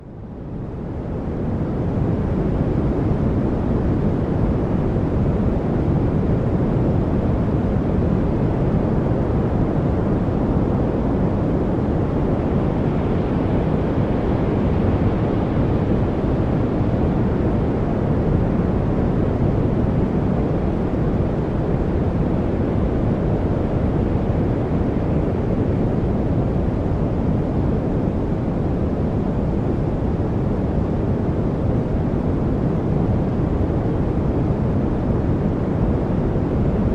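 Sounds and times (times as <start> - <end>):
deep steady noise rush: 0.0 - 36.9.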